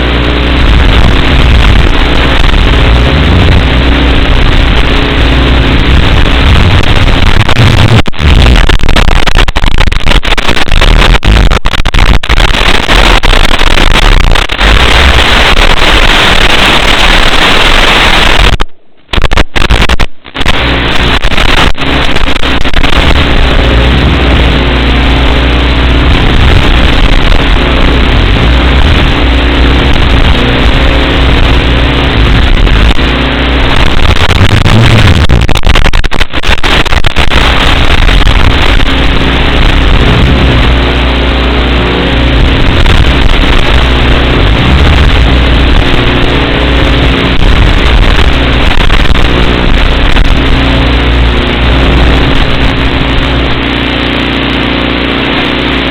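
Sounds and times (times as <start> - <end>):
low buzz: 0.0 - 55.9
static hiss: 0.0 - 55.9.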